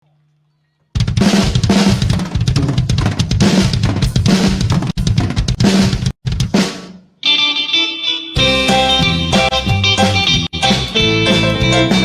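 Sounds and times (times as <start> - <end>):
drum kit played fast: 1.0 - 7.2, 8.4 - 12.0.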